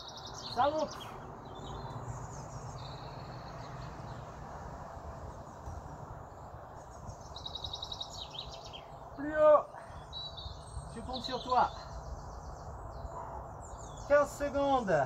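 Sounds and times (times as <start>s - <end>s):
bird trill: 0.0s - 4.3s, 5.5s - 14.9s
small birds chirping: 0.0s - 15.0s
steady environmental hiss: 0.0s - 15.0s.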